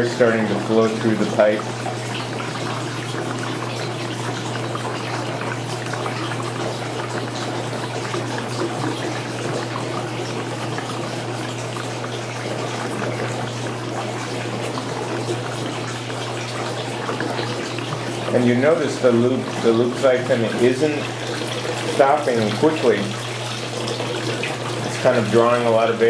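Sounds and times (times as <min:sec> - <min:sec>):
water and air through siphon: 0:00.0 - 0:26.0.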